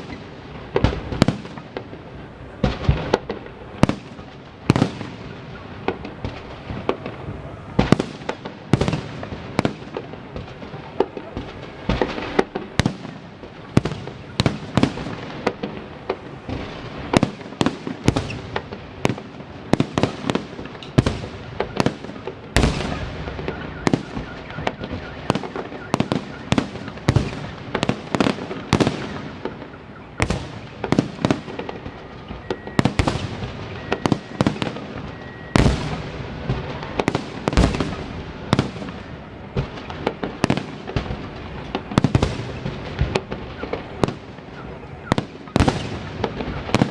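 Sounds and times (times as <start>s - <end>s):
fireworks bangs with echo: 0.0s - 46.9s.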